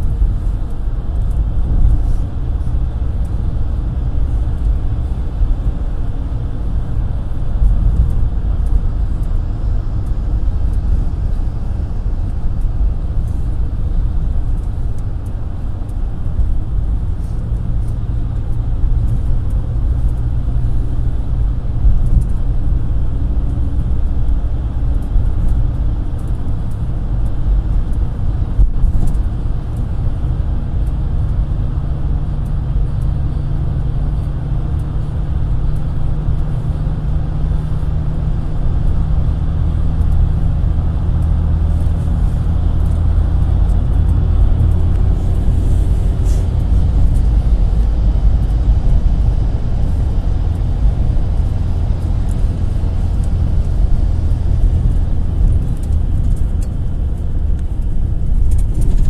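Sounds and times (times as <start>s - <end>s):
engine hum: 0.0s - 59.0s
road rumble: 0.0s - 59.0s.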